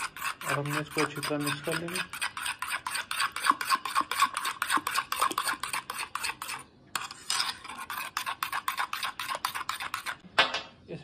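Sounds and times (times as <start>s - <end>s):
spoon scraping against bowl: 0.0s - 10.2s.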